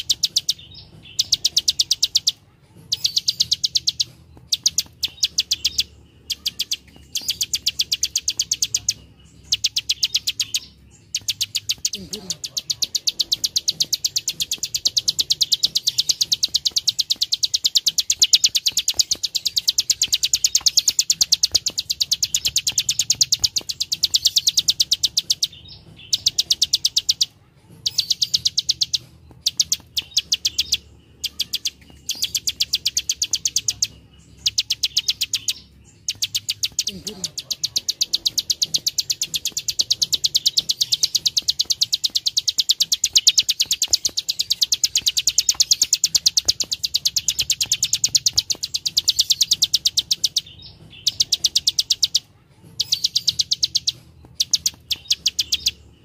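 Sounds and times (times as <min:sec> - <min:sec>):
bird singing sharp high ticks: 0:00.0 - 0:55.8.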